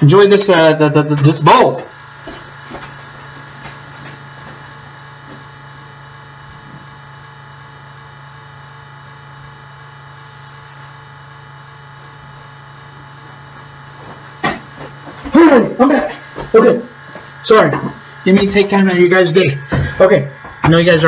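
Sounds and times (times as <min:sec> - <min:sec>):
laptop electronic hum and whine: 0:00.0 - 0:21.0.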